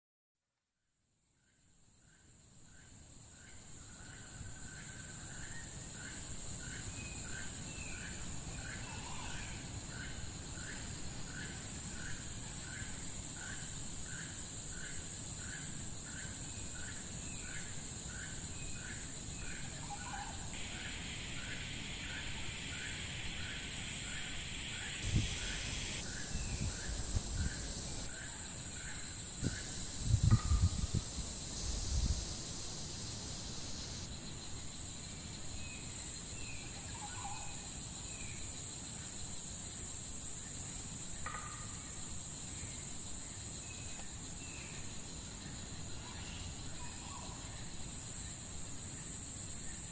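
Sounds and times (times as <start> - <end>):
high-pitched insect drone: 2.1 - 49.9.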